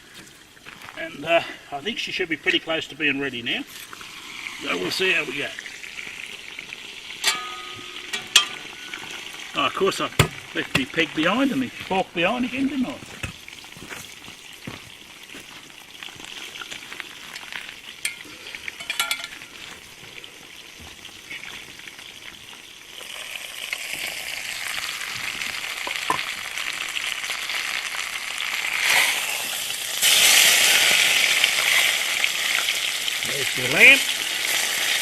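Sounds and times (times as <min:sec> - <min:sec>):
roast sizzling and spitting: 0:00.0 - 0:35.0.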